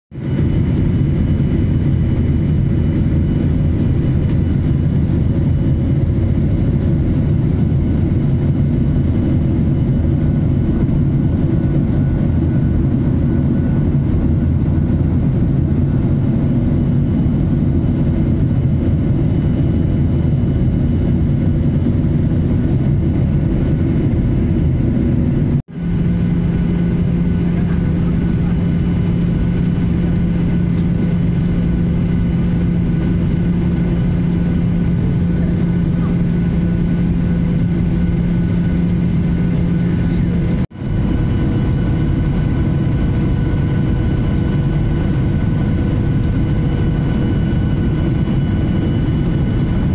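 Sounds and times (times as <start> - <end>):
jet airliner cabin roar: 0.2 - 49.9
steady hum: 0.2 - 49.9.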